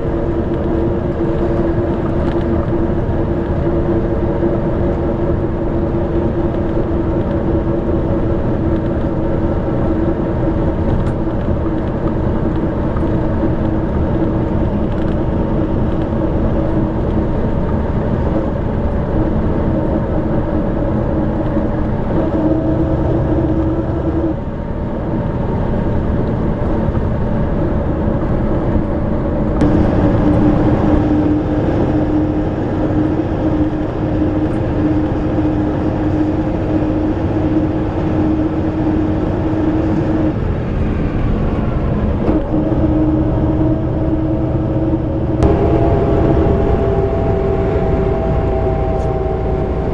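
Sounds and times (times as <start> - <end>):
diesel coach engine running: 0.0 - 49.9.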